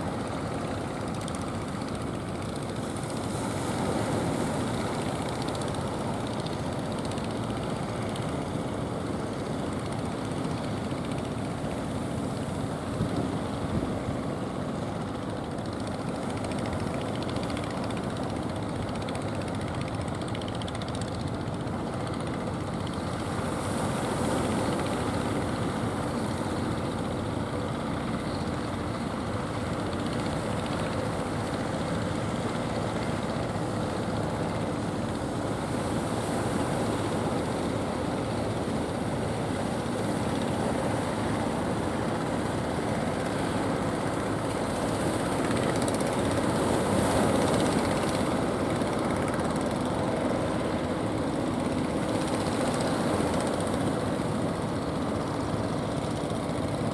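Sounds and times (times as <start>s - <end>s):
boat engines running: 0.0s - 56.9s.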